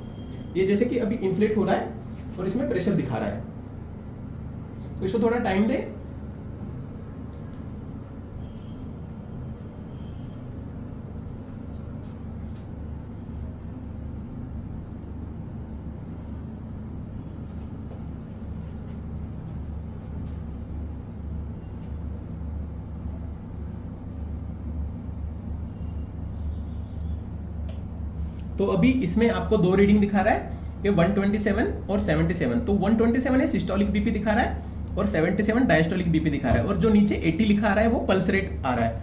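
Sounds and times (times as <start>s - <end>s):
small air pump humming: 0.0s - 16.4s, 17.0s - 39.0s.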